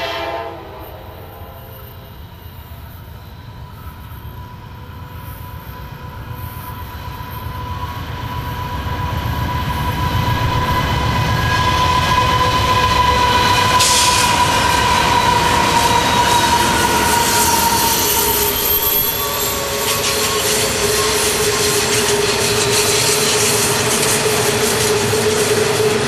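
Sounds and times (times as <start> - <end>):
diesel locomotives rumbling: 0.0 - 26.0
high-pitched brake squeal: 0.0 - 26.0
wagon wheels hissing on rails: 0.0 - 26.0.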